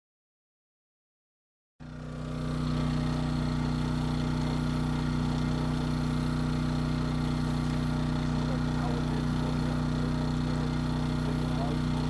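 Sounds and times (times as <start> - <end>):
small engine idling: 1.8 - 12.0.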